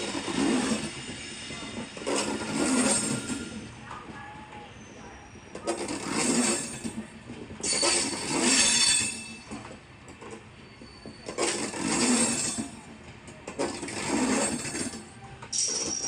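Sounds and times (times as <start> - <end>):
train wheels clattering over rail joints: 0.0 - 3.5, 5.6 - 16.0
faint high wheel squeal: 0.1 - 12.9, 13.6 - 16.0.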